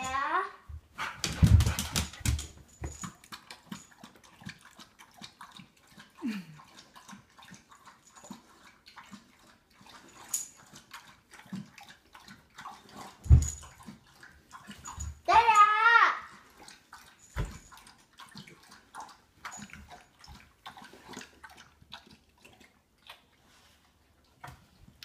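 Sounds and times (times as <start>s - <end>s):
dog lapping water: 3.0s - 15.3s, 16.2s - 25.0s.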